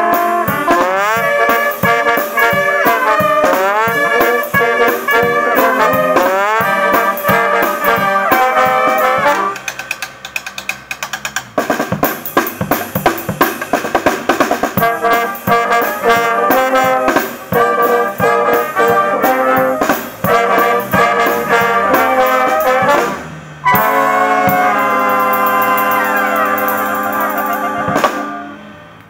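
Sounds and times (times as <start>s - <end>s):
brass band playing: 0.0s - 9.9s, 11.6s - 29.0s
drum kit strokes: 0.0s - 28.7s.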